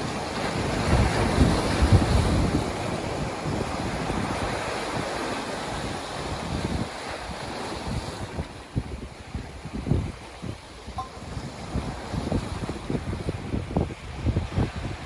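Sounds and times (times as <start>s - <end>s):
ocean waves washing in: 0.0s - 15.0s
wind buffeting microphone: 0.0s - 15.0s.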